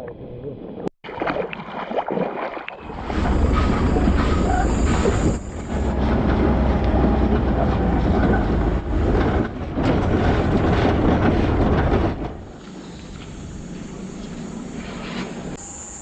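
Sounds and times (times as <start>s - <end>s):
truck road and engine noise: 2.9s - 16.0s.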